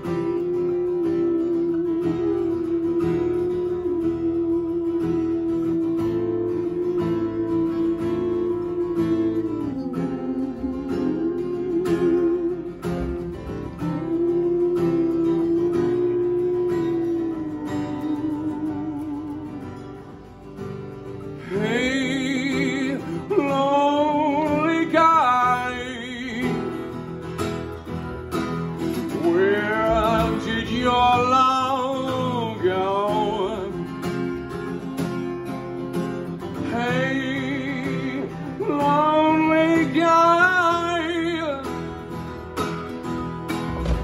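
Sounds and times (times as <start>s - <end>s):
man singing with vibrato: 0.0s - 44.0s
strummed ukulele: 0.0s - 44.0s.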